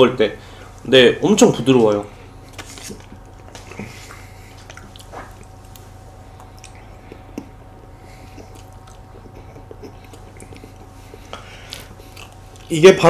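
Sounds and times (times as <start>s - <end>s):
soft chewing: 1.9s - 12.8s.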